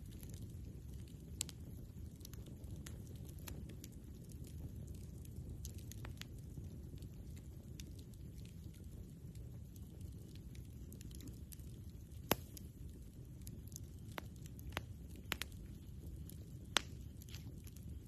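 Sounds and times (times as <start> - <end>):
campfire crackling pops: 0.0 - 18.0
campfire low rumble: 0.0 - 18.0.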